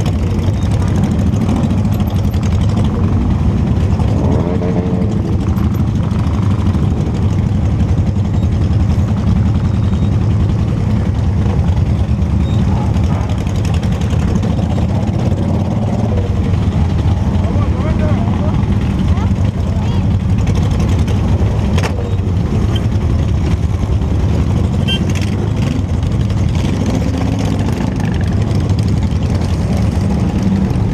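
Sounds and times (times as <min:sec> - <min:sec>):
motorcycle engine droning: 0:00.0 - 0:30.9.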